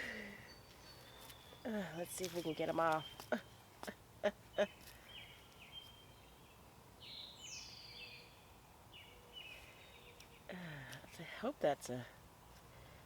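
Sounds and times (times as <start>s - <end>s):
faint birdsong chirping: 0.0s - 13.0s.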